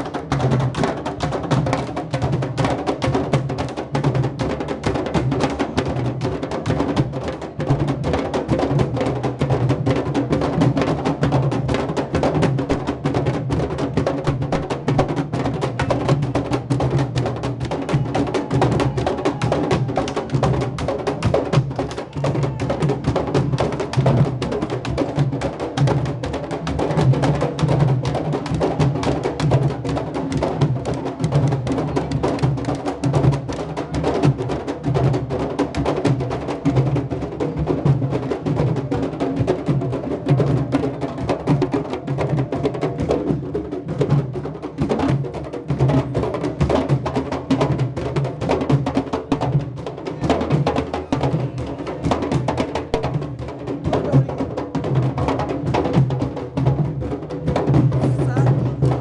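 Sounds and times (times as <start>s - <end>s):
street drum group drumming: 0.0s - 59.0s.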